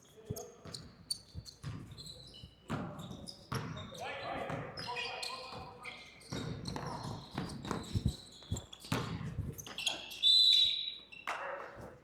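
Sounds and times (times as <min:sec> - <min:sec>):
shoe squeal: 0:00.3 - 0:04.0, 0:04.8 - 0:11.2.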